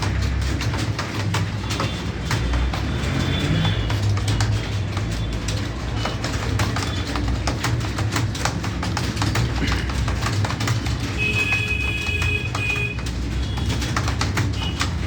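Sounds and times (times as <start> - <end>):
computer keyboard typing: 0.0 - 15.0.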